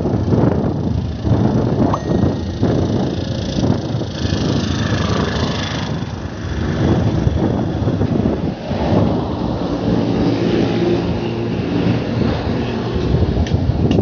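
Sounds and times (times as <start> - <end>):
road traffic: 0.0 - 14.0
wind buffeting microphone: 0.0 - 14.0.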